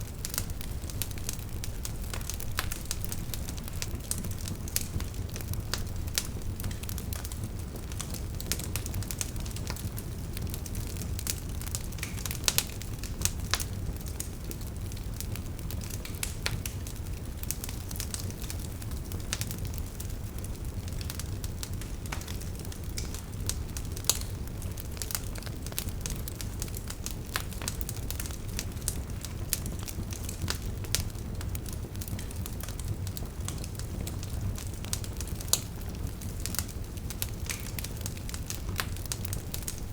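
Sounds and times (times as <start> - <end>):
low rumble of flame: 0.0 - 39.9
wood crackling and popping: 0.0 - 39.9.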